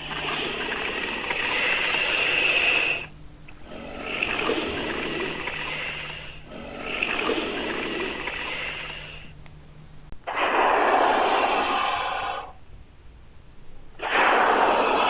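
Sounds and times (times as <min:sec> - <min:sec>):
long raspy hisses: 0:00.1 - 0:09.3, 0:10.3 - 0:12.6, 0:14.0 - 0:15.0.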